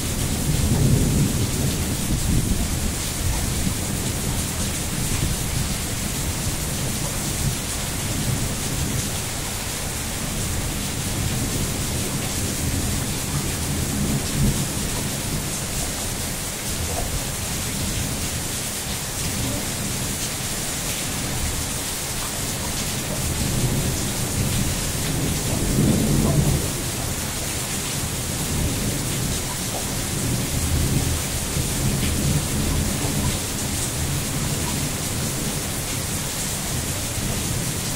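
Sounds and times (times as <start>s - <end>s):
thunder rumbling: 0.0s - 35.8s
steady rain hissing: 0.0s - 37.9s.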